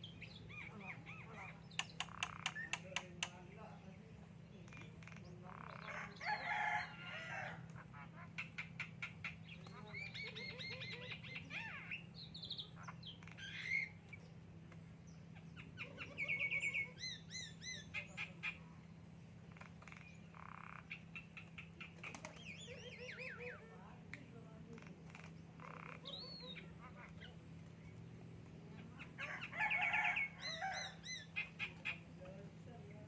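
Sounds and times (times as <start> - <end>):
myna calling: 0.0 - 3.6, 4.4 - 14.2, 15.2 - 28.0, 28.6 - 33.0.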